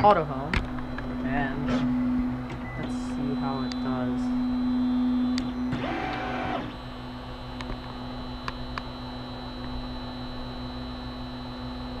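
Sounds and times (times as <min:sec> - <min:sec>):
printer motors and fans humming: 0:00.0 - 0:12.0.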